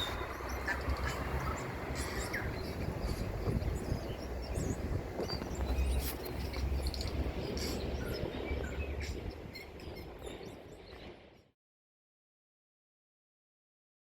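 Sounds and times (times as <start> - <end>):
steady low rumble: 0.0 - 11.3
birds chirping: 0.0 - 11.5.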